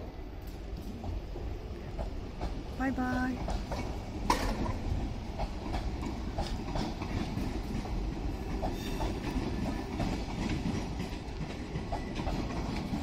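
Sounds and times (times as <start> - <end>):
train rumbling: 0.0 - 13.0
wheels clicking over rail joints: 0.4 - 13.0.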